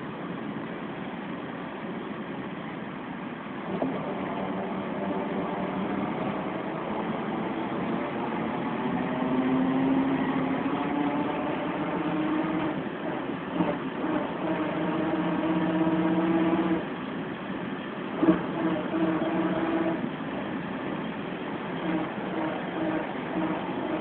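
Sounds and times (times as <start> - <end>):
bus engine and gearbox howl: 3.5 - 24.0.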